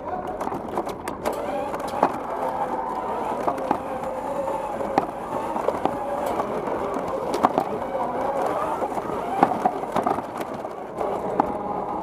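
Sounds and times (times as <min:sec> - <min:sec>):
electric motors whining: 0:00.0 - 0:12.0
chassis knocks and rattles: 0:00.2 - 0:11.6.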